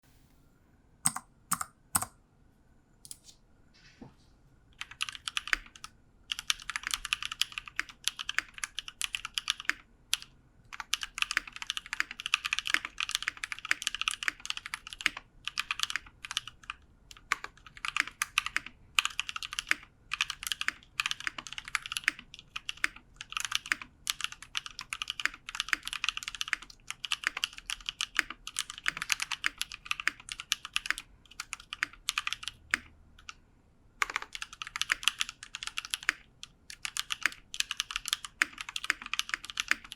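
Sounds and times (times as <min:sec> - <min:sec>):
mechanical keyboard typing: 0:01.0 - 0:02.2, 0:04.8 - 0:33.4, 0:34.0 - 0:39.9.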